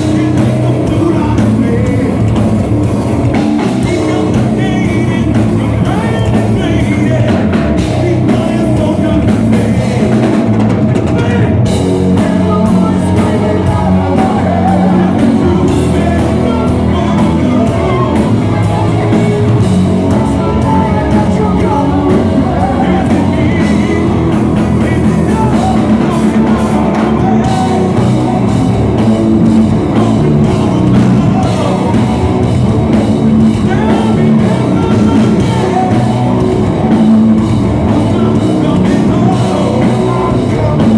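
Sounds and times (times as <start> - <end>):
distorted electric guitar: 0.0 - 40.9
drum kit: 0.0 - 40.9
man singing: 0.0 - 40.9.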